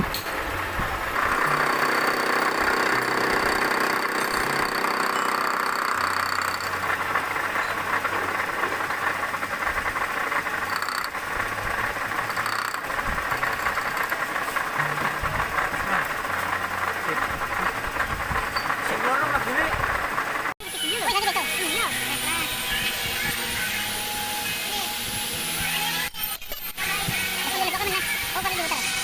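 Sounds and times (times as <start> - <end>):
machine low hum: 0.0 - 26.1
milling machine cutting: 0.0 - 26.1.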